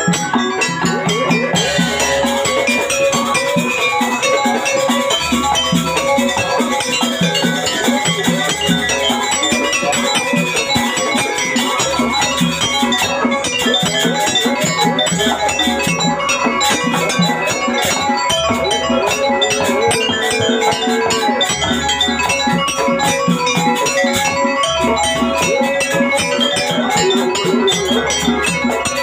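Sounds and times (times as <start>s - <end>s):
drums in a fast rhythm: 0.0s - 29.0s
gongs and metallophones: 0.0s - 29.0s.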